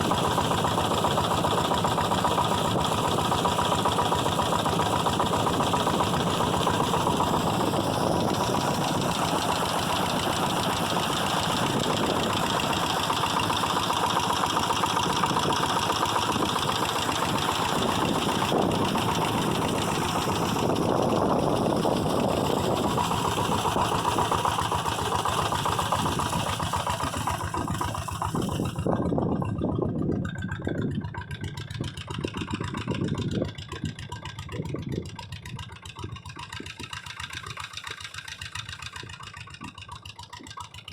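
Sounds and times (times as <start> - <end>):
engine running with fast chug: 0.0 - 40.9.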